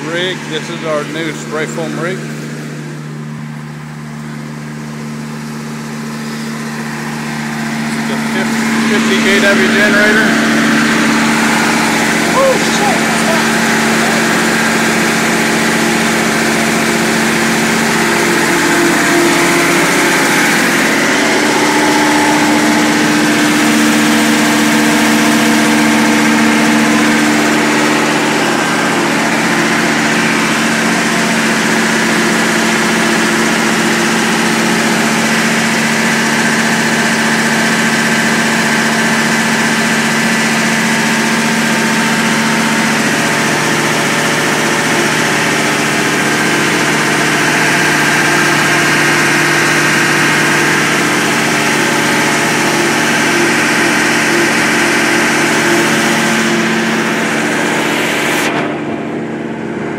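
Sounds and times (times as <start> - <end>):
generator engine humming: 0.0 - 59.9.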